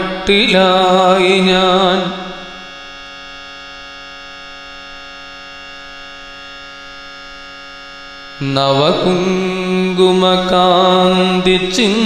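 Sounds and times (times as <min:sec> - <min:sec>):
steady drone: 0:00.0 - 0:12.0.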